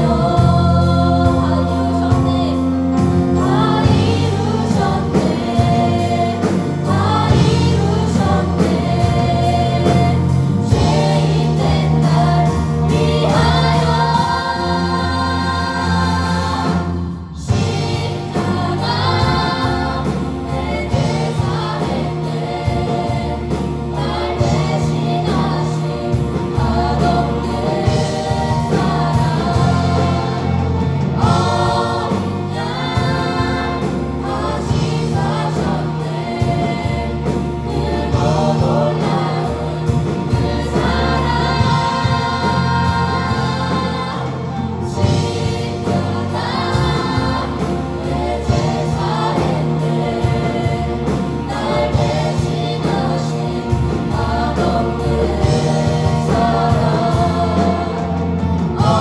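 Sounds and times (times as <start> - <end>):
band accompaniment with beat: 0.0 - 59.0
choir singing gospel: 0.0 - 59.0.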